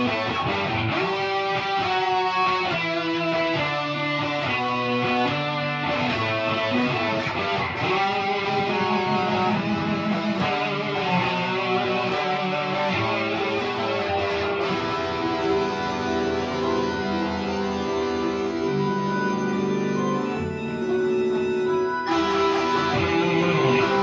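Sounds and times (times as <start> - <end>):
electric guitars playing melody: 0.0 - 24.0.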